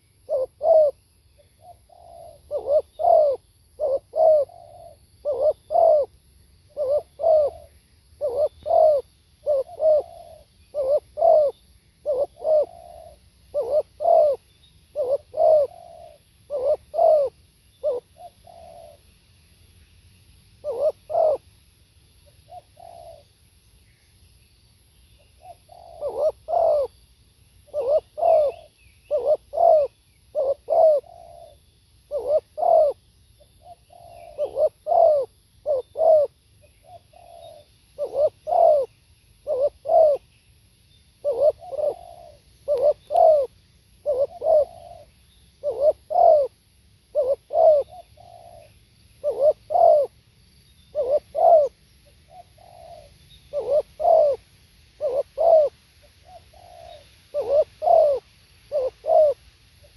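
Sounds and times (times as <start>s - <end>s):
dove cooing: 0.0s - 19.1s, 20.6s - 21.5s, 22.4s - 23.3s, 25.4s - 27.0s, 27.7s - 33.0s, 33.6s - 40.3s, 41.2s - 50.2s, 50.9s - 54.4s, 55.0s - 59.9s
small birds chirping: 0.0s - 21.6s, 22.2s - 59.9s.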